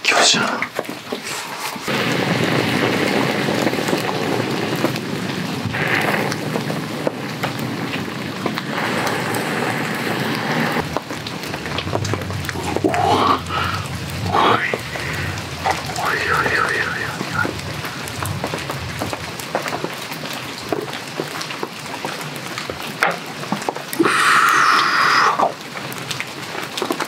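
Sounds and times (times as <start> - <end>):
rain pattering on a tarp: 0.0 - 27.0.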